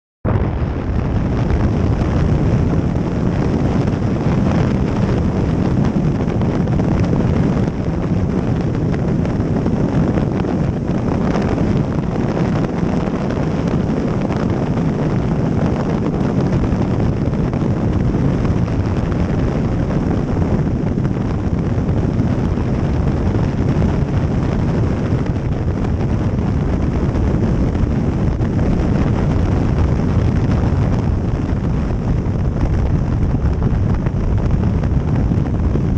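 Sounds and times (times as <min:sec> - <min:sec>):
wind rush on microphone: 0:00.2 - 0:35.9.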